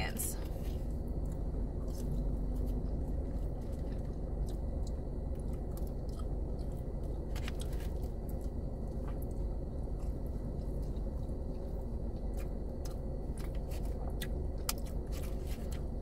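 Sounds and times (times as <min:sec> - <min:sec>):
steady low hum: 0:00.0 - 0:16.0
person chewing fried food: 0:00.6 - 0:16.0.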